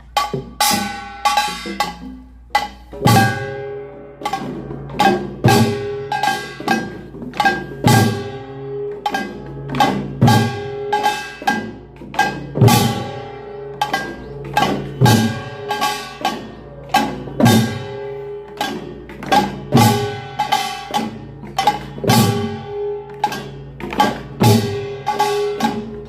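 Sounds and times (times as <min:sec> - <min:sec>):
drums: 0:00.0 - 0:26.0
small gongs clanging: 0:00.0 - 0:26.0.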